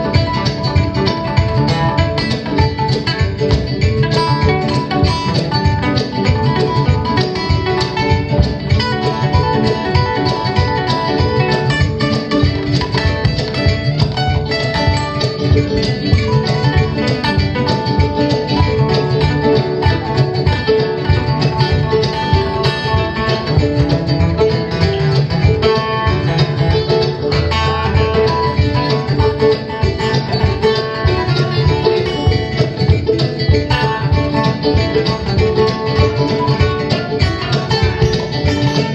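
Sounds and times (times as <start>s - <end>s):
acoustic guitar: 0.0s - 38.9s
plucked string instrument: 0.0s - 38.9s.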